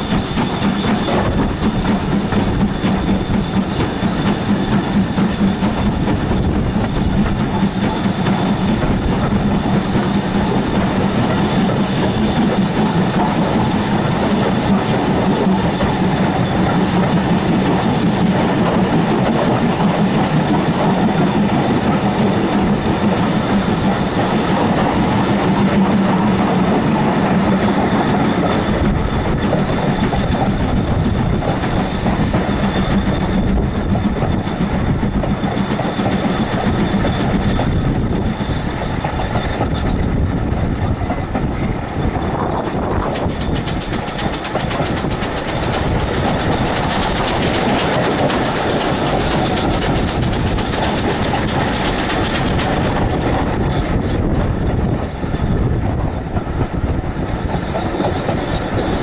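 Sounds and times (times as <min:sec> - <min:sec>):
train wheels running on rails: 0:00.0 - 0:59.0.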